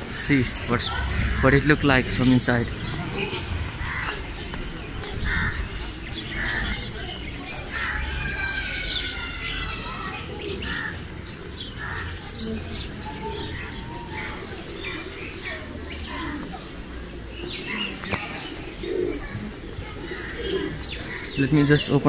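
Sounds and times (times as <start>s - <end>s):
murmur of distant voices: 0.0s - 22.0s
pigeons cooing: 0.0s - 22.0s
small birds chirping: 0.0s - 22.0s.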